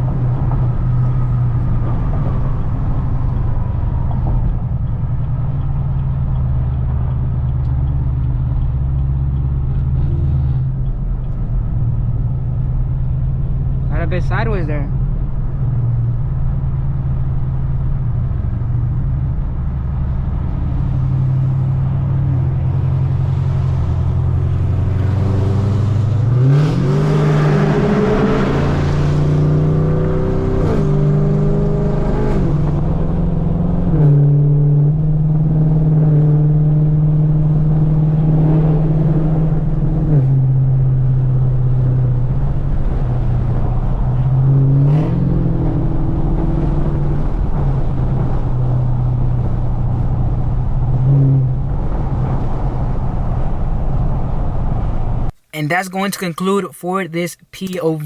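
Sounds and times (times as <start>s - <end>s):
car engine accelerating and shifting: 0.0s - 14.1s, 15.2s - 55.3s.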